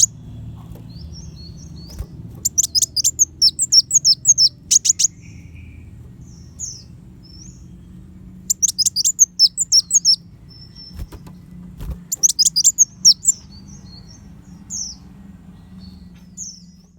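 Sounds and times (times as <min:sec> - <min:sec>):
bird chirping rapidly: 0:00.0 - 0:16.9
steady low hum: 0:00.0 - 0:16.9.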